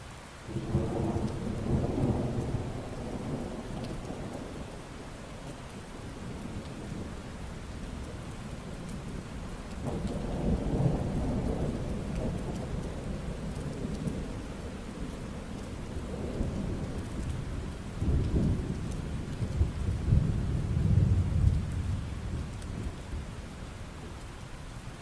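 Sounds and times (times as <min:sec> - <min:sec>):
steady rain falling: 0:00.0 - 0:25.0
low rolling thunder: 0:00.5 - 0:23.8.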